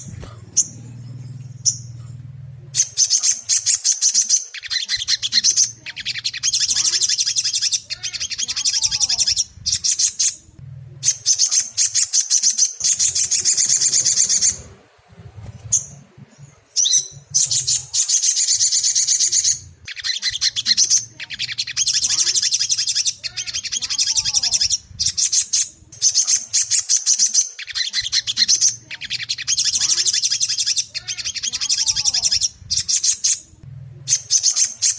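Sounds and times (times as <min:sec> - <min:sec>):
bird singing high chattering phrases: 0:00.0 - 0:34.9
faint low hum: 0:00.0 - 0:34.9.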